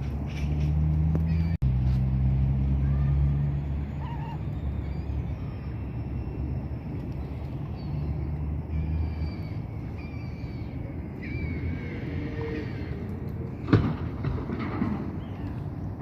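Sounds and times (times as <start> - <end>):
low rumble outdoors: 0.0 - 16.0.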